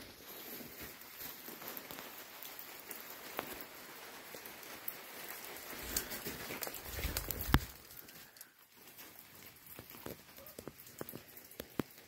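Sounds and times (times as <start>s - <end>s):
rain pattering on wet rock: 0.0s - 12.0s.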